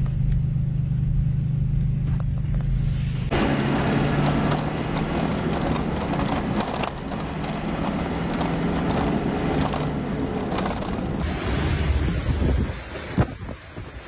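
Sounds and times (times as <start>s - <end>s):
car engine hum: 0.0s - 14.0s
road and wind noise: 0.0s - 14.0s.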